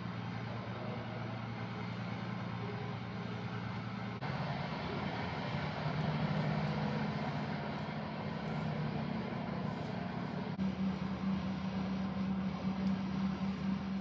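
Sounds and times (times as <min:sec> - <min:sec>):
constant rushing noise: 0:00.0 - 0:14.0
steady low hum: 0:00.0 - 0:14.0.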